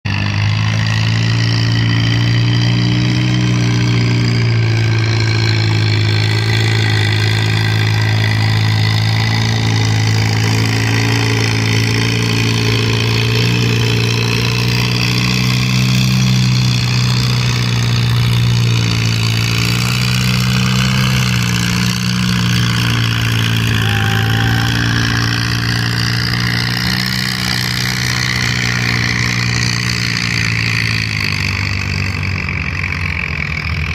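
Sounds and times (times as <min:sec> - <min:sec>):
tractor engine running loudly: 0:00.0 - 0:33.9.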